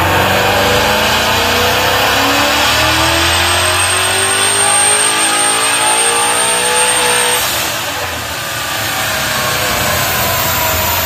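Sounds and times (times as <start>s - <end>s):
car engine revving at full throttle: 0.0s - 11.0s.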